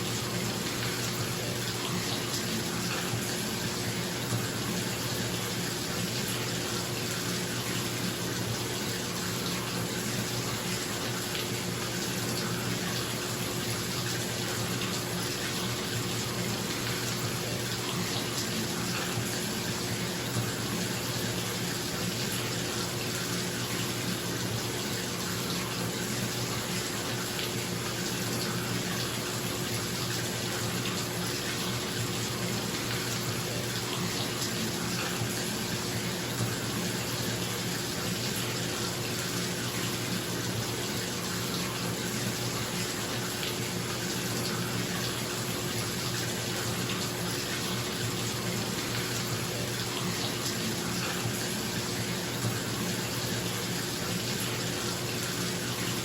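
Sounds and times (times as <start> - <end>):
running water filling bathtub: 0.0 - 56.0.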